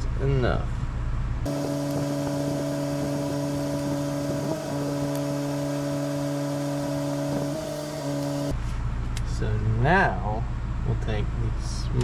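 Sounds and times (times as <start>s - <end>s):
steady machine hum: 0.2s - 11.5s.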